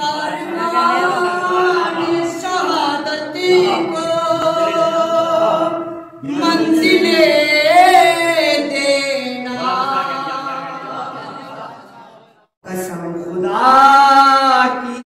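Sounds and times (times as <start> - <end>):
man singing unaccompanied: 0.0 - 10.5, 12.6 - 15.0.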